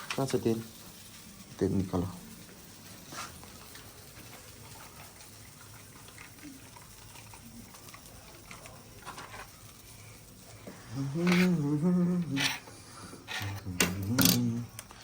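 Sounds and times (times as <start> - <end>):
pan hissing on stove: 0.0 - 15.0.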